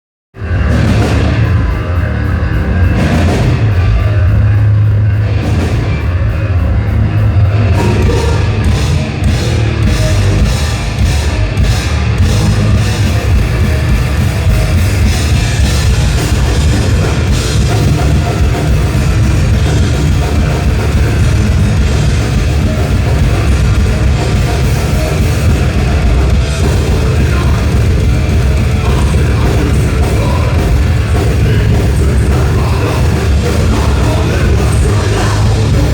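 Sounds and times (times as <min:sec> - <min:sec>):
live thrash metal band: 0:00.4 - 0:35.9.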